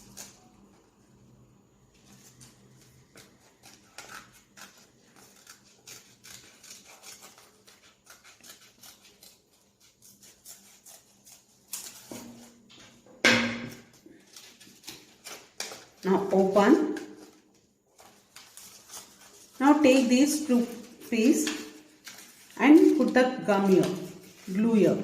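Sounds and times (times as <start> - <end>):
scissors snipping paper: 0.0 - 0.5, 2.1 - 12.3, 14.2 - 17.4, 18.0 - 25.0.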